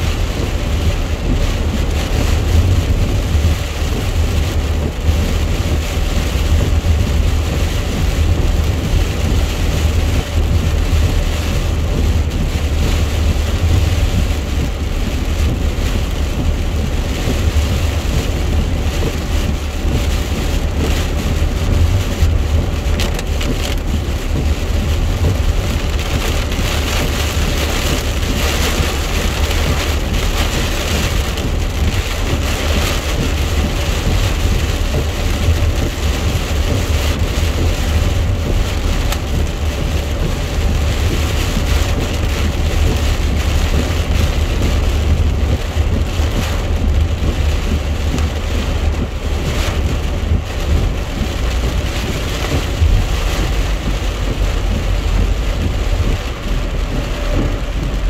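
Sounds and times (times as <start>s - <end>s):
heavy rain drumming on car roof: 0.0s - 58.0s
tyres rumbling on wet road: 0.0s - 58.0s.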